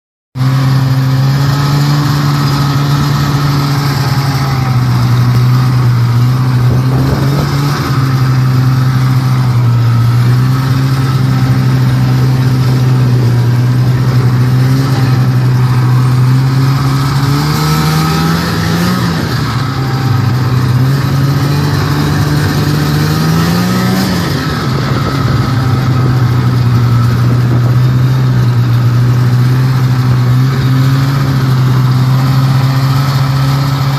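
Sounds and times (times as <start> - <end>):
snowmobile engine running: 0.4 - 33.9.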